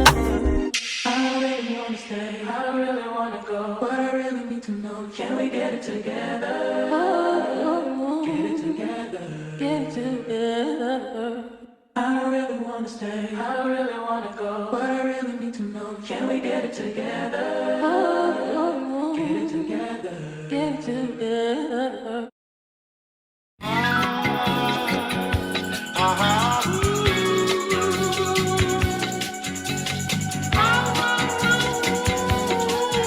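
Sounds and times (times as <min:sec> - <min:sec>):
music with layered sung vocals: 0:00.0 - 0:21.8, 0:23.6 - 0:33.0.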